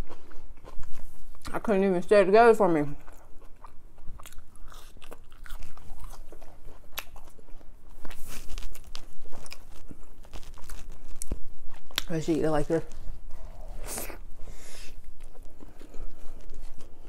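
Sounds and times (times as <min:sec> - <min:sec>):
chewing crunchy fries: 0:00.0 - 0:01.8, 0:02.8 - 0:17.0.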